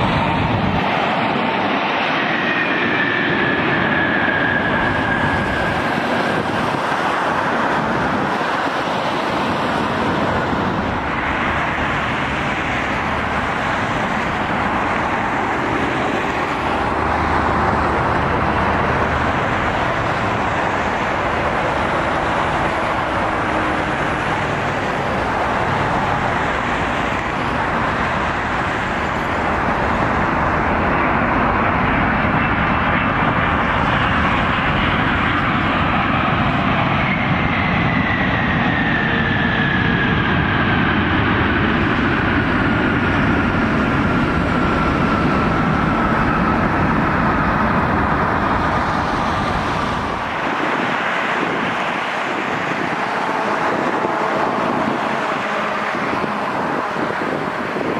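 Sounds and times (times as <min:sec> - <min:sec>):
jet engine falling whine: 0:00.0 - 0:57.9
jet engine noise: 0:00.0 - 0:57.9.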